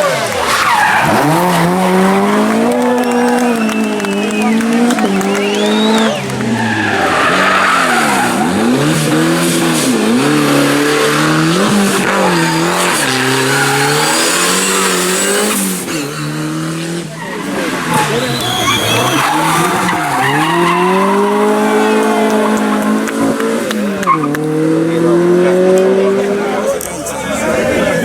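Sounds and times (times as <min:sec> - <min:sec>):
tyres squealing on road: 0:00.0 - 0:11.1, 0:11.7 - 0:24.4
rally car engine revving: 0:00.0 - 0:28.0.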